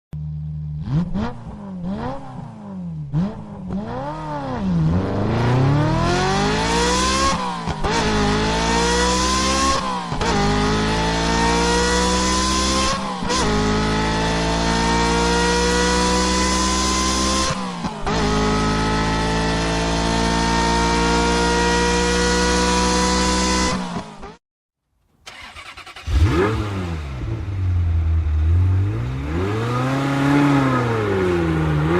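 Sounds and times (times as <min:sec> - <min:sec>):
sports car engine revving: 0:00.4 - 0:24.4, 0:25.4 - 0:31.9.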